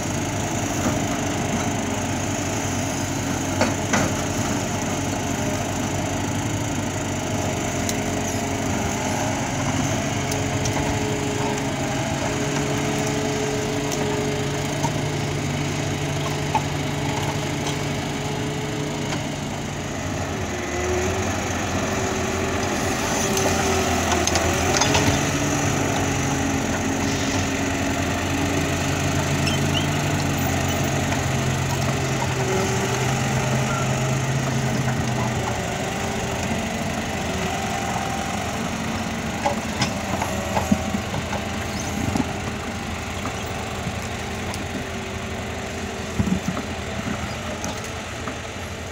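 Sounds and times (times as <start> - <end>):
forwarder diesel engine running: 0.0 - 48.9.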